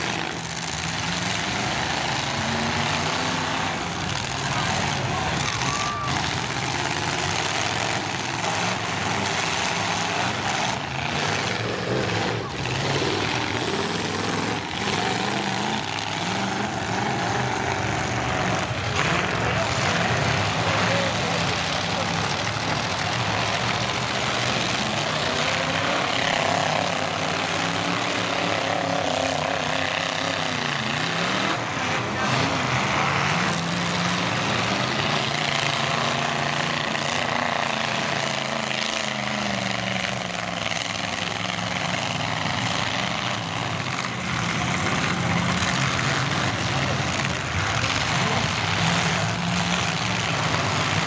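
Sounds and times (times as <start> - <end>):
truck engines revving: 0.0 - 51.0.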